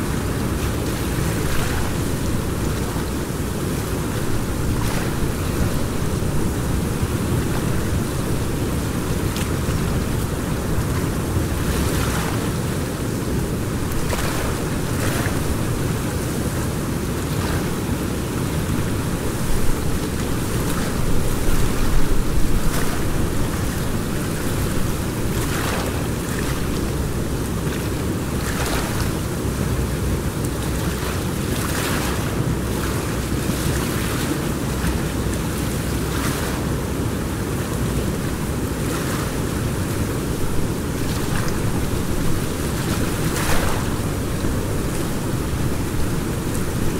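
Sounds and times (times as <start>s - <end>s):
river water rushing: 0.0s - 46.9s
wind noise on microphone: 0.0s - 46.9s.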